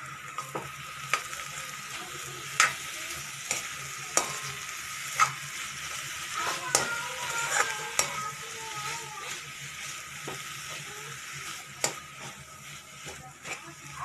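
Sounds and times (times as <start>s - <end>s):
potato filling sizzling in a pan: 0.0s - 14.0s
spatula stirring and scraping: 1.1s - 14.0s.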